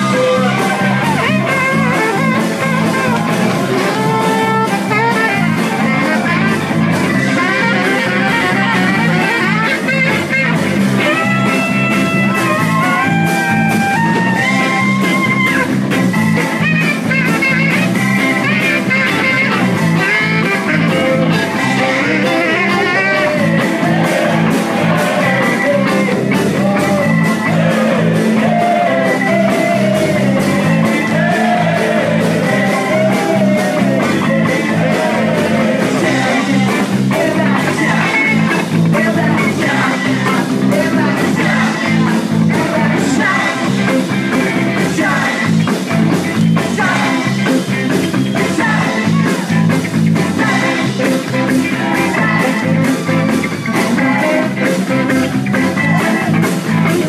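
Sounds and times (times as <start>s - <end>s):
electric guitar lead lines: 0.0s - 57.0s
steady drum beat: 0.0s - 57.0s.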